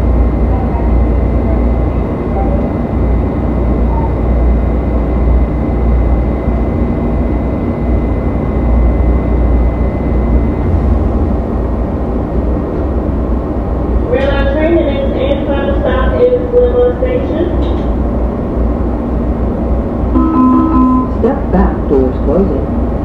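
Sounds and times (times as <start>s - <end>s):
train rumble and hum: 0.0s - 23.0s.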